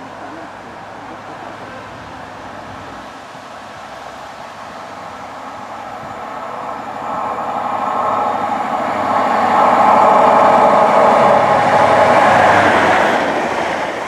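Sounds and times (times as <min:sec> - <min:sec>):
diesel train approaching: 0:00.0 - 0:14.0.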